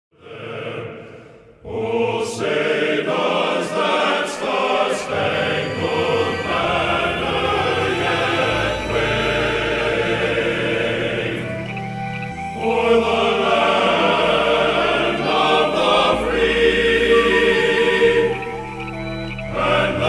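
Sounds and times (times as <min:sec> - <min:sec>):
background music: 0:00.2 - 0:20.0.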